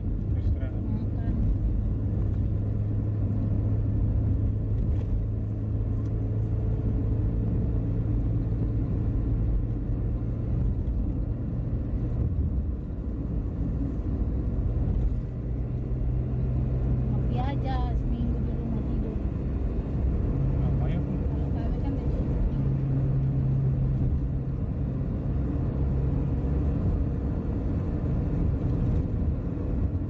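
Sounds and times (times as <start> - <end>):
car interior road rumble: 0.0 - 30.0.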